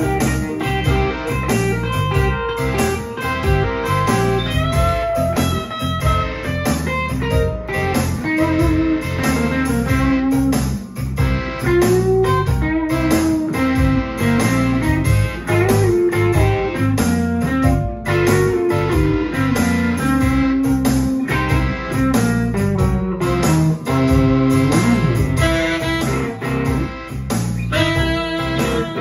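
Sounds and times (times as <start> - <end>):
electric guitar bluesy melody: 0.0 - 29.0
low rhythmic accompaniment: 0.0 - 29.0.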